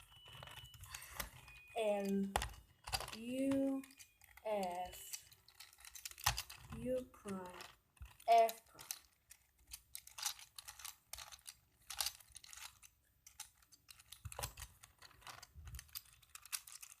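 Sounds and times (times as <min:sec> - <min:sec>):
puzzle cube layers clicking: 0:00.0 - 0:17.0.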